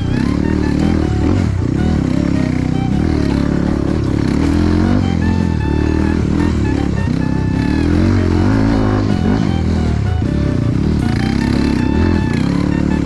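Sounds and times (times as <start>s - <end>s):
background music: 0.0s - 13.0s
motorcycle engine revving: 0.0s - 13.0s.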